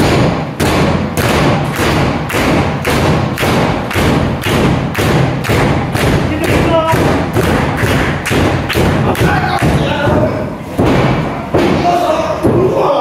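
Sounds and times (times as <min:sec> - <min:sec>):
heavy rhythmic thumps: 0:00.0 - 0:13.0
loud continuous din: 0:00.0 - 0:13.0.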